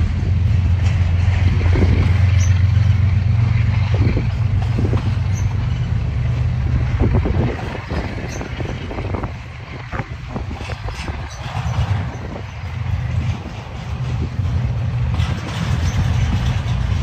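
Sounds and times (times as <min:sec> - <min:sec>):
freight train rumbling on rails: 0:00.0 - 0:17.0
train cars clattering: 0:00.0 - 0:17.0.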